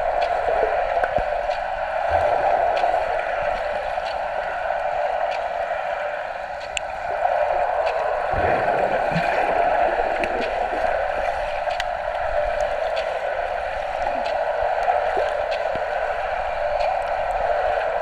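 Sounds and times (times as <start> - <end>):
deep surge of water: 0.0 - 18.0
muffled water sloshing and churning: 0.0 - 18.0.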